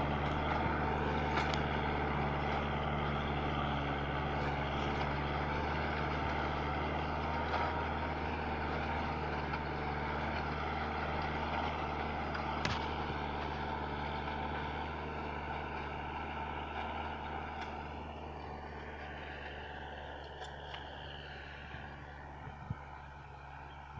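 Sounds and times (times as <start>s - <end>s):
tractor diesel engine running: 0.0s - 23.9s.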